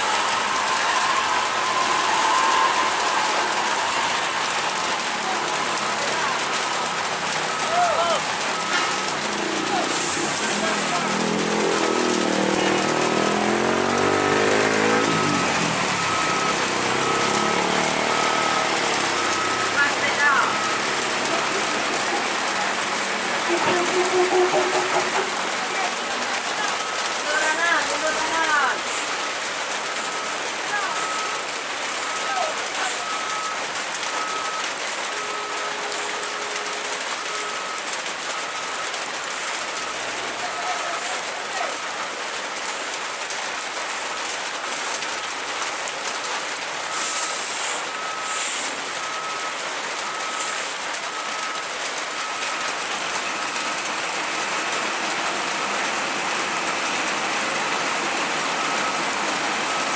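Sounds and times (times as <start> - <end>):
rain hissing: 0.0 - 59.9
truck engine labouring: 0.0 - 59.9.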